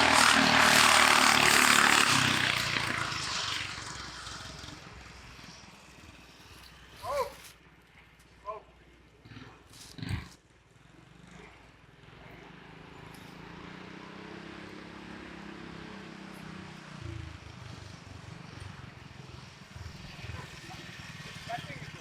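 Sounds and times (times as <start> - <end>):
go-kart engine running: 0.0 - 8.1, 9.4 - 22.0.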